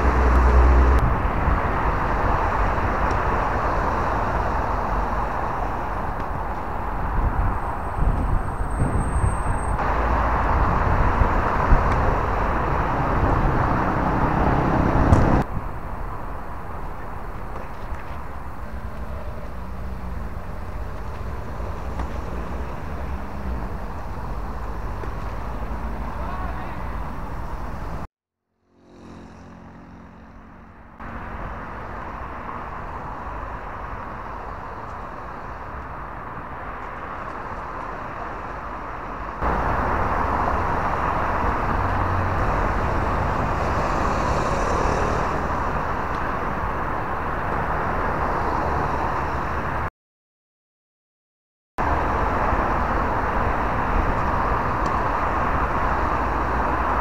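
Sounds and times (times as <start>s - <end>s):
outdoor background rumble: 0.0s - 49.9s.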